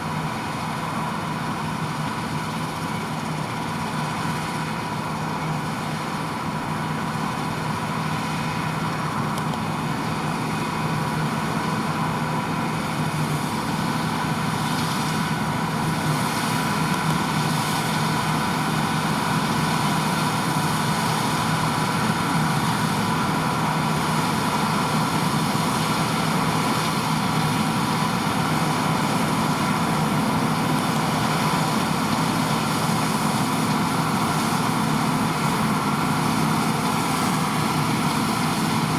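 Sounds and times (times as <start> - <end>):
combine harvester engine drone: 0.0 - 38.9
machinery whine: 0.0 - 38.9.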